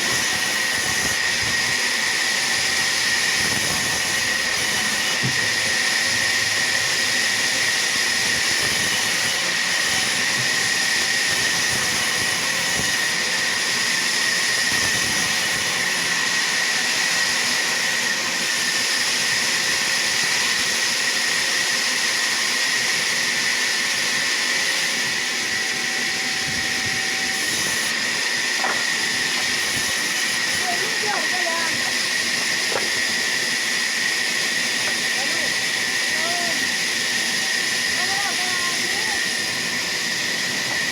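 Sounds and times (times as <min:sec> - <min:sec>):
sawmill saw whining: 0:00.0 - 0:40.9.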